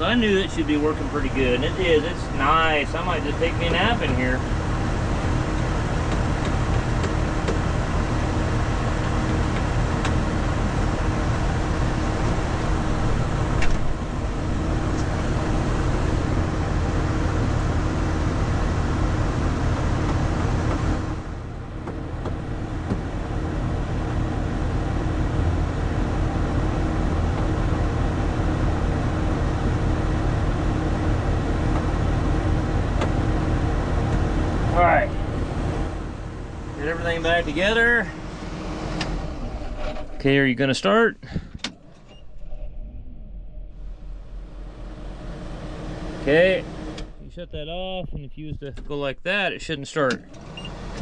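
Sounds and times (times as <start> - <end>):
tractor diesel engine idling: 0.0 - 42.2, 43.3 - 51.0
air-conditioning fan blowing: 0.0 - 51.0.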